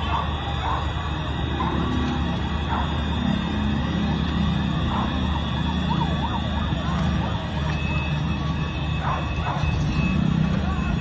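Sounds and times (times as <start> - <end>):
siren yelping: 0.0 - 11.0
sirens wailing: 0.0 - 11.0.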